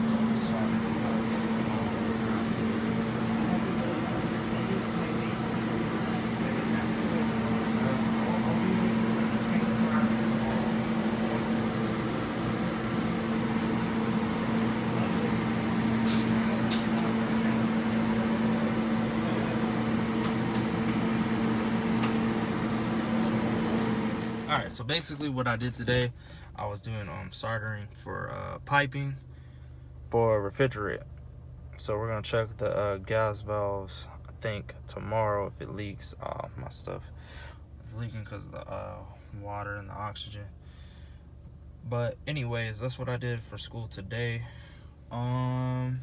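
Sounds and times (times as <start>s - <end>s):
mechanical fan hum: 0.0s - 46.0s.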